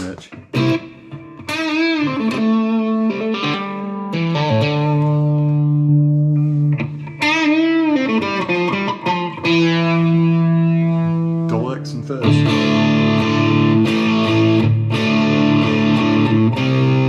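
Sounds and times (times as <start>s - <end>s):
electric guitar sustained notes: 0.3s - 17.0s.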